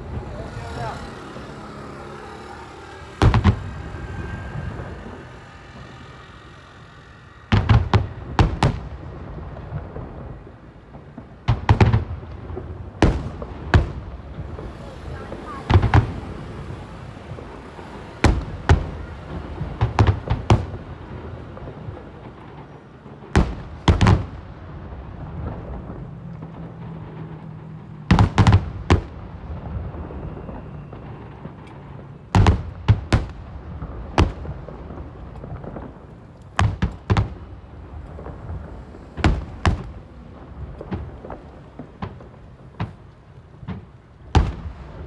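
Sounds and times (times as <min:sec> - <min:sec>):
fireworks booming: 0:00.0 - 0:45.0.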